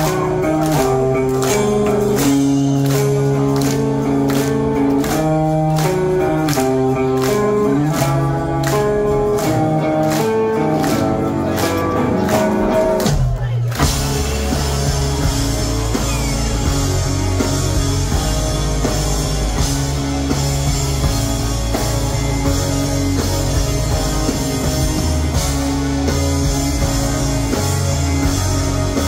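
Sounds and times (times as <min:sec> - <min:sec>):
rock band playing live: 0:00.0 - 0:29.0.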